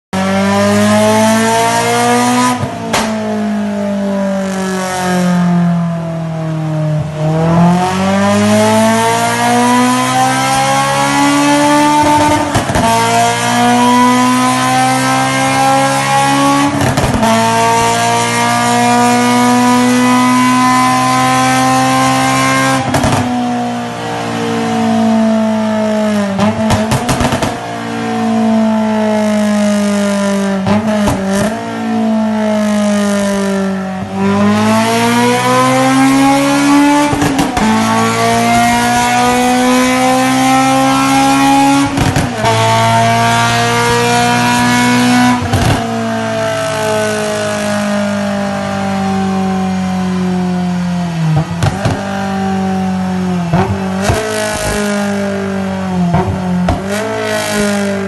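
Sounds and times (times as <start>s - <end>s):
car engine accelerating: 0.2s - 58.0s.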